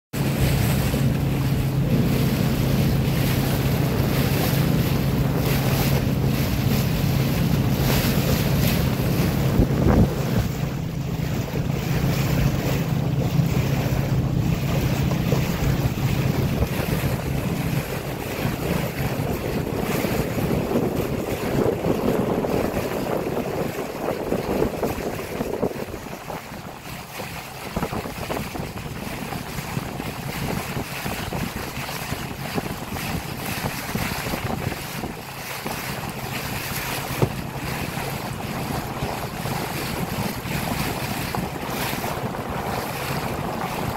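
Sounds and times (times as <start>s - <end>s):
boat engine hum: 0.1s - 43.9s
rushing water: 0.2s - 43.9s
wind buffeting microphone: 0.2s - 43.9s.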